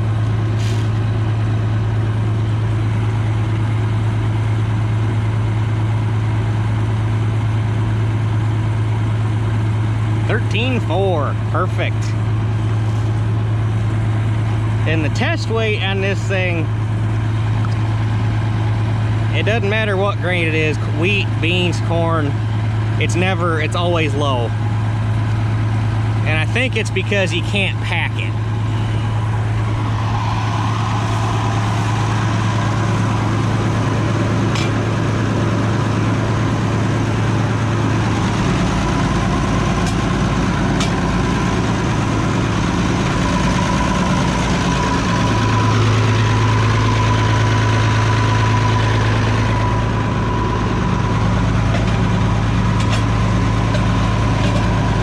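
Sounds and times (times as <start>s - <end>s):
combine engine hum with whine: 0.0s - 55.0s.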